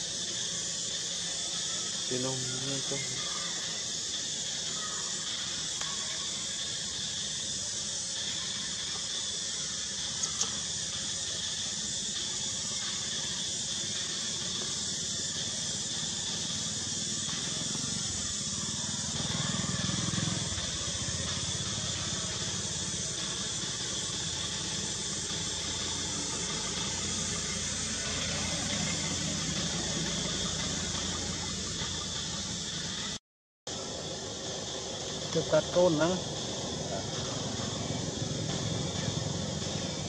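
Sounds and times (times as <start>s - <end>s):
insect chorus hiss: 0.0s - 40.0s.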